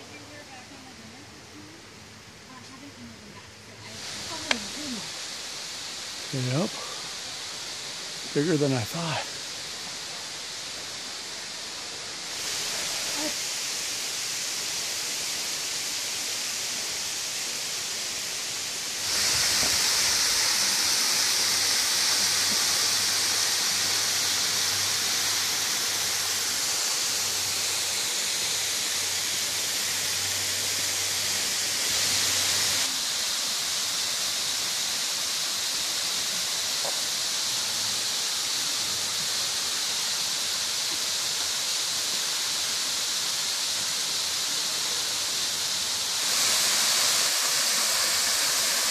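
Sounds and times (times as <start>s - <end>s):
waterfall rushing: 3.8s - 48.9s.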